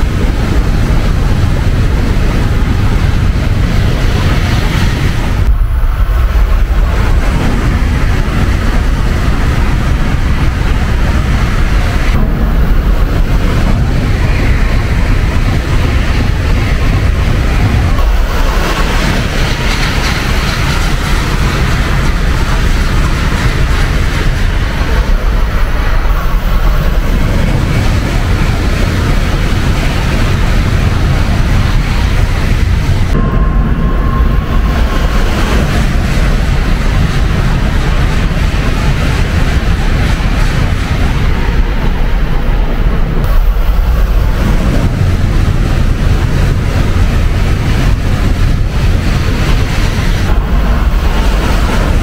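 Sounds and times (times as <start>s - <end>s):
high-speed train passing: 0.0s - 52.0s.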